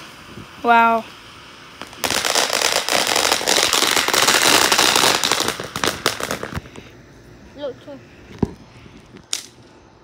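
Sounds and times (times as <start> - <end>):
firecrackers popping: 0.0 - 7.0, 8.3 - 9.7.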